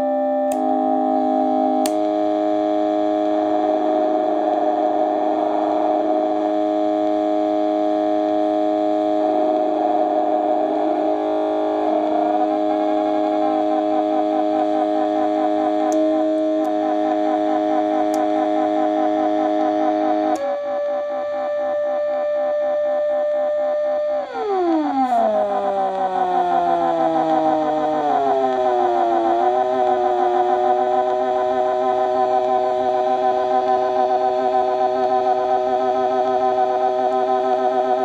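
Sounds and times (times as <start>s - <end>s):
synthesizer droning buzzy tones: 0.0s - 38.0s.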